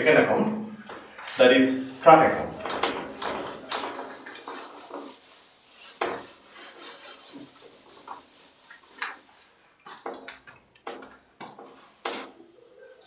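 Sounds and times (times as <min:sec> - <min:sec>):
duster wiping a whiteboard: 0:00.9 - 0:12.4.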